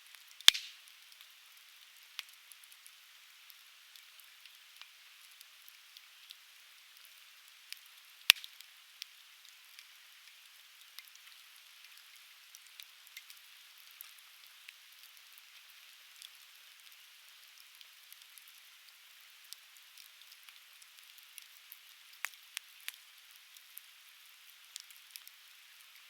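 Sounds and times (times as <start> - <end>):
logs crackling in fire: 0.1 - 26.0.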